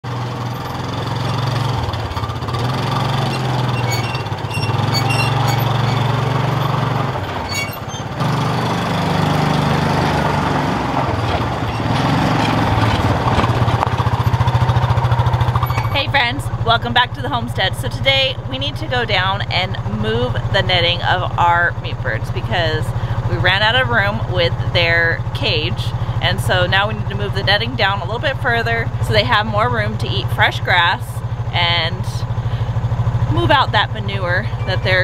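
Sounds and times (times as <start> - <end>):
small vehicle engine running: 0.0 - 35.0.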